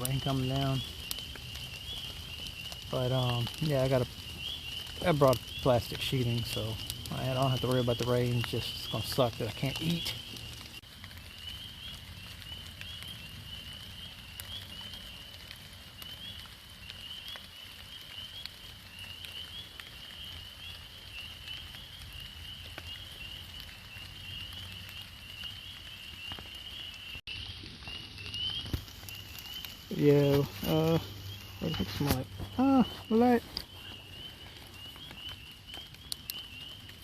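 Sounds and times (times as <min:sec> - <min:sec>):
frogs trilling: 0:00.0 - 0:37.0
rain pattering and dripping: 0:00.0 - 0:37.0.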